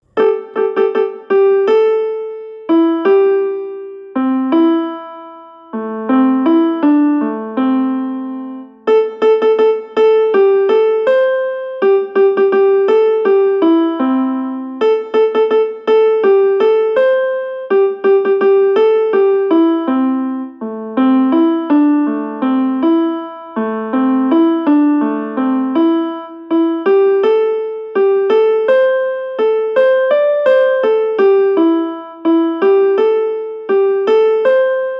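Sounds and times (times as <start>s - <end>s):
electric keyboard ringtone melody: 0.2s - 34.9s.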